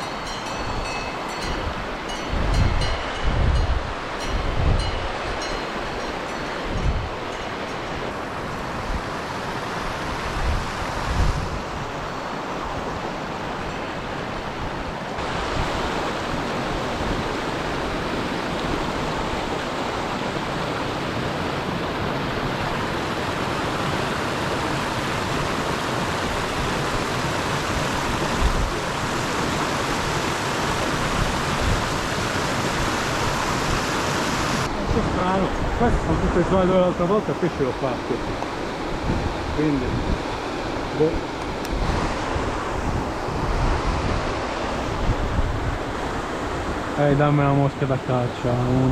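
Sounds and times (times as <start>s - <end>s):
mountain torrent rushing: 0.0s - 48.9s.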